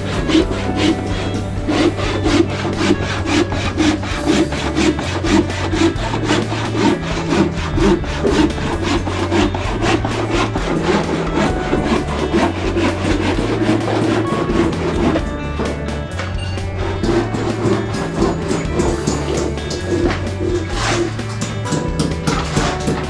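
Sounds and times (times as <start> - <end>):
hand saw cutting wood: 0.0 - 15.2, 17.1 - 23.0
background music: 0.0 - 23.0.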